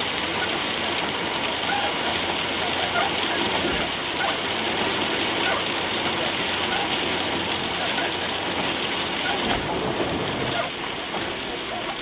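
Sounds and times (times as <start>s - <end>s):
heavy rain: 0.0s - 12.0s
raindrops ticking on windscreen: 0.0s - 12.0s
tyres on a wet road: 0.0s - 12.0s.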